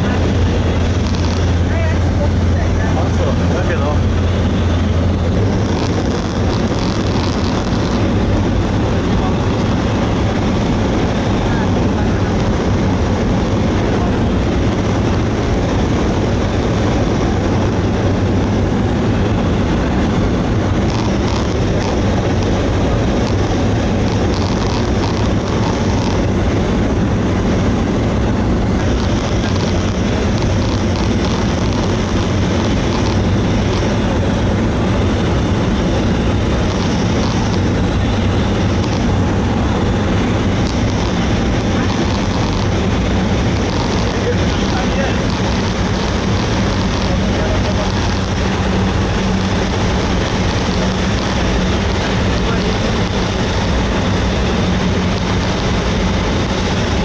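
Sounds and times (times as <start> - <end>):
propeller engine droning in cabin: 0.0 - 57.0.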